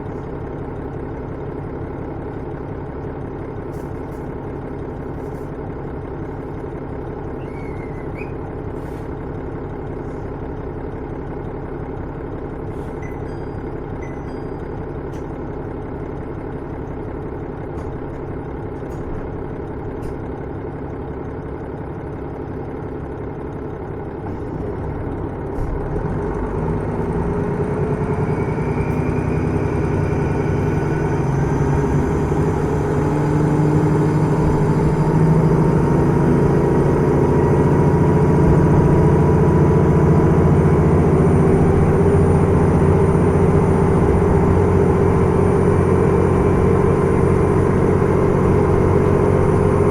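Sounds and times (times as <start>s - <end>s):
railcar diesel engine: 0.0s - 49.9s.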